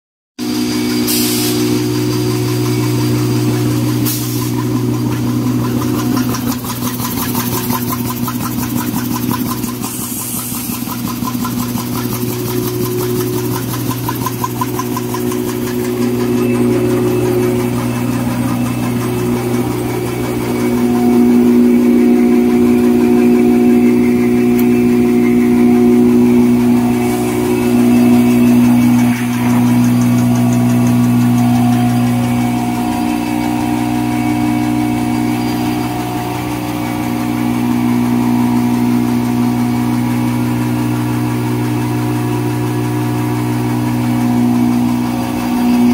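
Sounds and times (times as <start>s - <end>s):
paper machine humming: 0.4s - 45.9s
rhythmic ticking of rolls: 0.4s - 45.9s.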